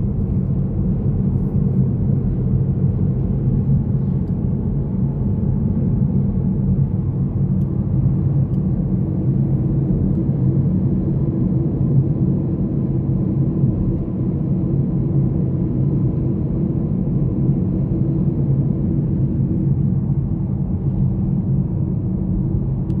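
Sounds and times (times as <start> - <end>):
vehicle road and engine rumble: 0.0 - 23.0.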